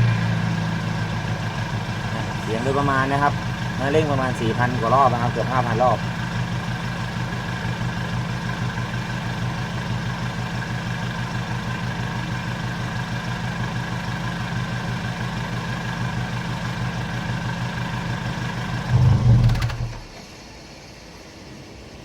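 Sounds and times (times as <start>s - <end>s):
pickup truck exhaust: 0.0s - 20.2s.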